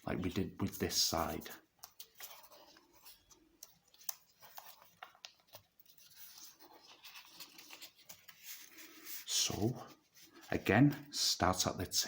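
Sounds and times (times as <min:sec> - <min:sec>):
paper rustling and crinkling: 0:00.1 - 0:11.1
paper crackle: 0:00.2 - 0:10.5.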